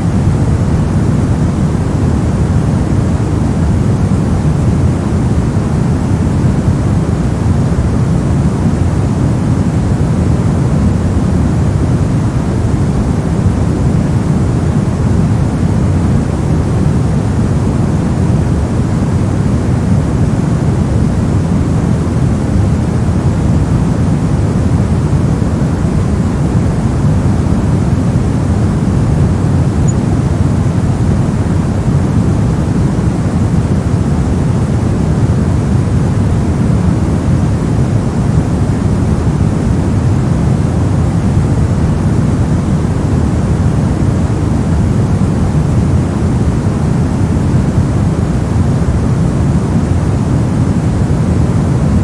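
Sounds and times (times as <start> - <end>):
deep white noise: 0.0 - 52.0.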